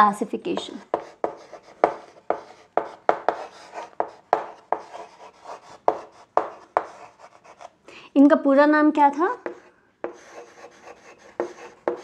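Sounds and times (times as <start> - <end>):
chalk scratching on chalkboard: 0.6 - 7.7, 9.4 - 12.0.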